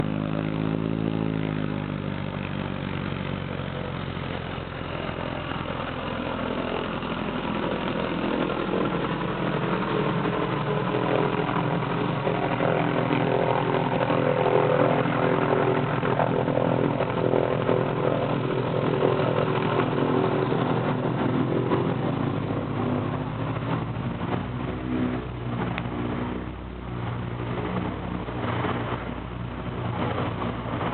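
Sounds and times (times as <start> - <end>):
light aircraft engine and propeller: 0.0 - 30.9.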